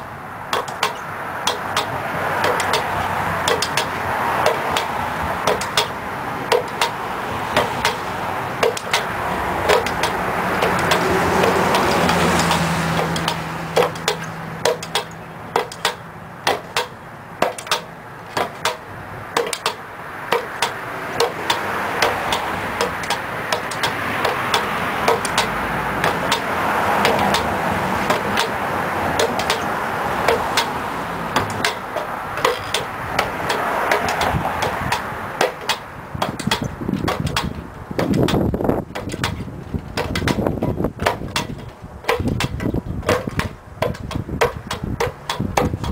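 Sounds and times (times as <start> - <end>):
passing traffic: 0.0 - 45.9
pogo stick bouncing on asphalt: 0.5 - 45.9.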